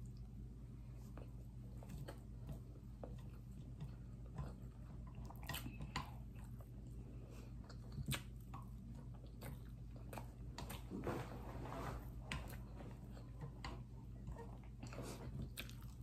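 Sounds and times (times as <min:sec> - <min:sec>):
person chewing food: 0:00.0 - 0:11.2, 0:11.9 - 0:16.0.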